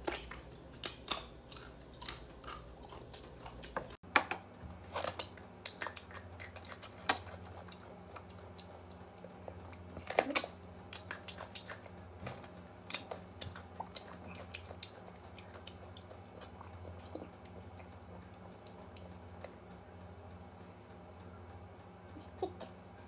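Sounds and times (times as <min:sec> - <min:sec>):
wet chewing clicks: 0:00.0 - 0:04.0, 0:04.9 - 0:19.6
steady low hum: 0:00.0 - 0:23.0.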